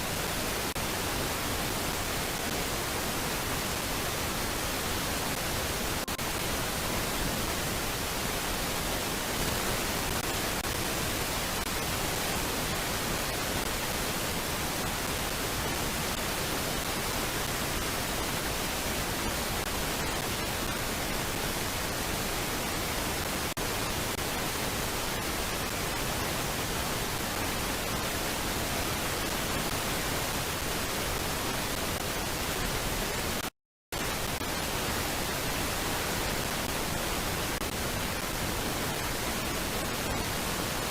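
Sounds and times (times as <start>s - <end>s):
static hiss: 0.0s - 40.9s.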